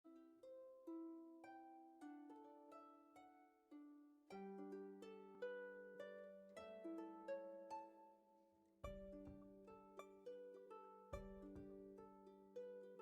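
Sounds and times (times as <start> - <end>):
plucked notes music: 0.1 - 13.0.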